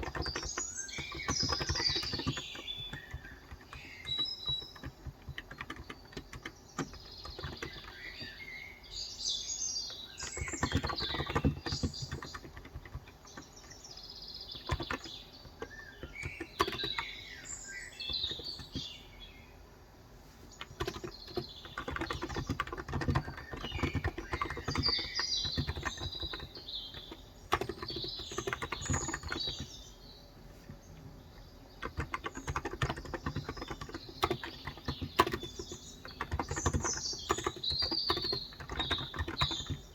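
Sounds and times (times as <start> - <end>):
keyboard typing: 0.0 - 8.6, 9.9 - 19.0, 20.5 - 30.0, 30.6 - 39.9
birds chirping: 0.0 - 39.9.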